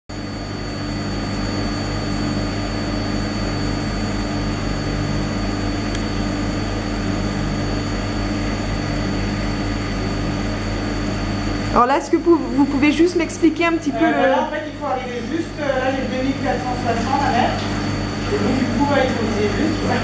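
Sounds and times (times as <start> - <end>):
refrigeration machinery humming: 0.1 - 20.0.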